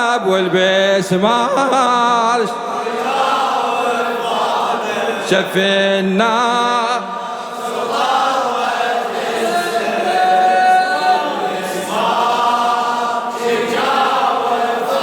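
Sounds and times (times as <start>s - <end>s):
chorus of voices chanting: 0.0s - 15.0s.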